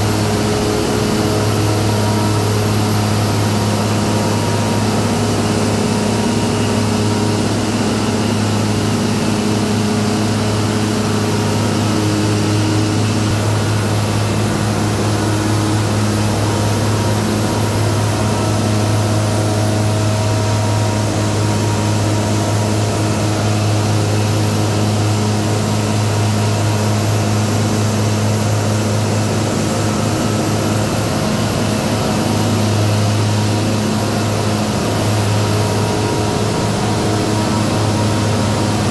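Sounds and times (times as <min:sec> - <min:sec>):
low engine hum: 0:00.0 - 0:38.9.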